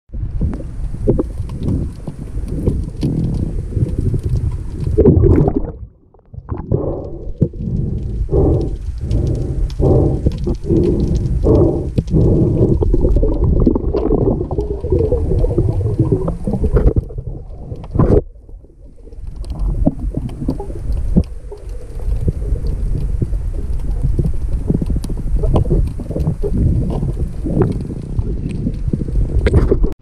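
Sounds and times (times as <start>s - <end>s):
muffled underwater rumble: 0.1s - 30.0s.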